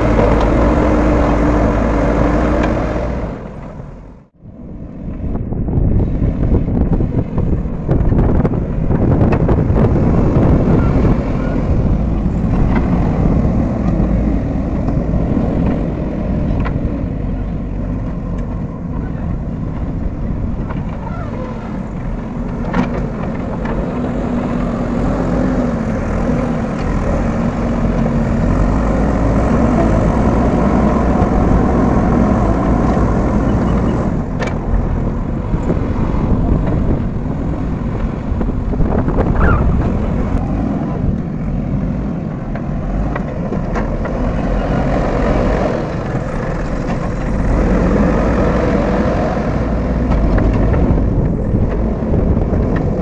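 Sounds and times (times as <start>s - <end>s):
diesel engines running: 0.0s - 53.0s.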